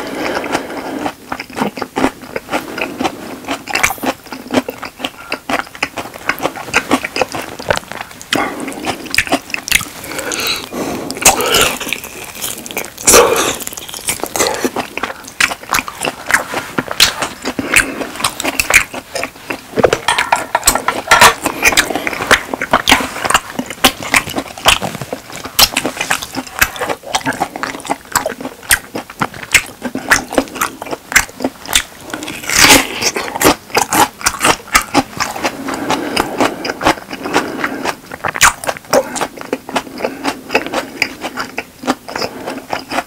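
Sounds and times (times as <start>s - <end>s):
person chewing food: 0.0s - 43.0s.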